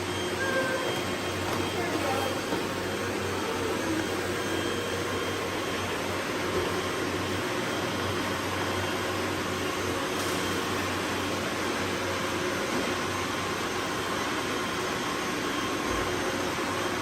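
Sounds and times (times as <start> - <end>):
robot vacuum cleaners whirring: 0.0 - 17.0.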